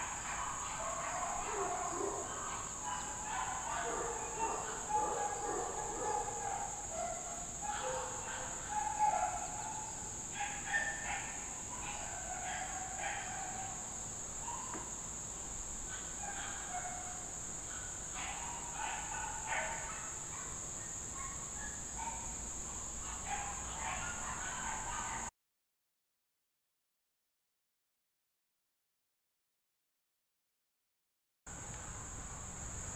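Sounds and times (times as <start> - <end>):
high-pitched insect chorus: 0.0 - 25.3, 31.5 - 32.9.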